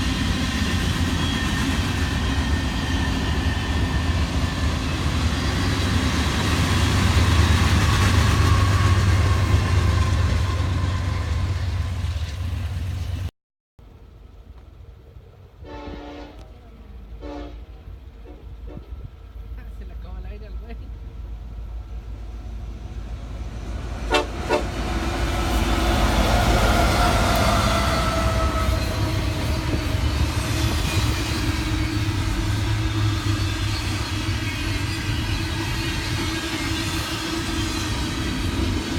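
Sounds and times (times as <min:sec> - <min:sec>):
train wheels rolling on rails: 0:00.0 - 0:13.3, 0:20.5 - 0:38.9
diesel locomotive engine rumble: 0:00.0 - 0:38.9.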